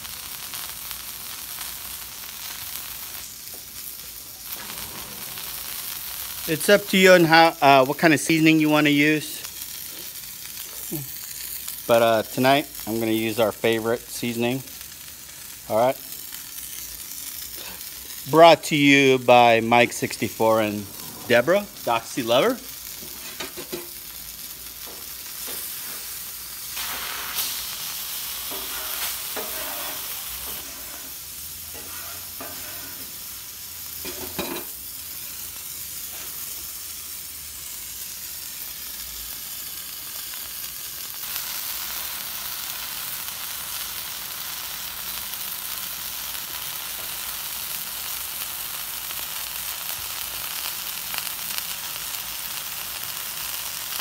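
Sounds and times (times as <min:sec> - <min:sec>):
meat sizzling on a griddle: 0:00.0 - 0:54.0.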